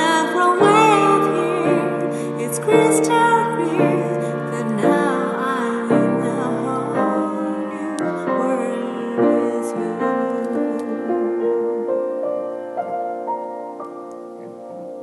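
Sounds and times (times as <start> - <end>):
piano: 0.0 - 15.0
soft keyboard chords: 0.0 - 15.0.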